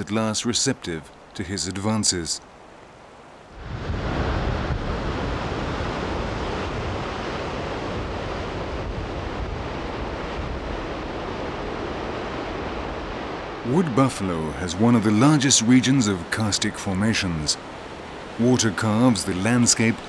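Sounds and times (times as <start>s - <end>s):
river rapids and waterfall rushing: 1.5s - 20.0s.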